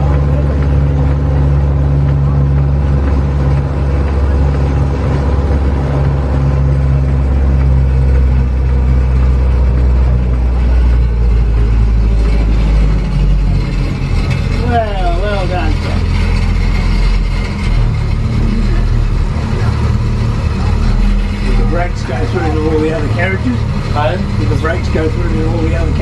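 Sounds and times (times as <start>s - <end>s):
road noise: 0.0s - 26.0s
road train engine drone: 0.0s - 26.0s.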